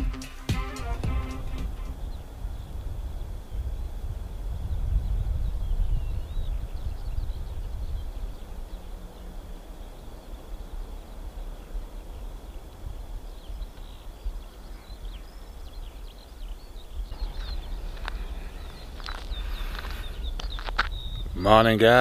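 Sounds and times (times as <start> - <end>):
small birds chirping: 0.0 - 22.0
wind buffeting microphone: 0.6 - 22.0.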